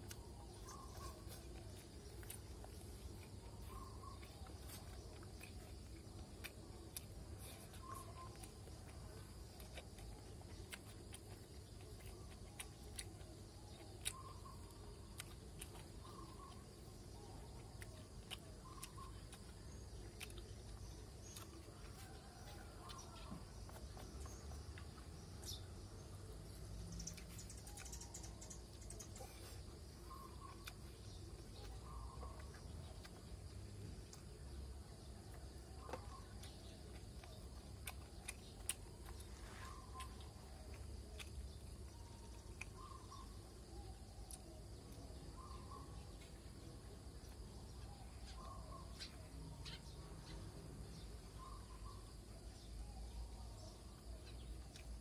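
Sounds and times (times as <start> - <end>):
bird chirps: 0.0 - 9.0, 9.7 - 55.0.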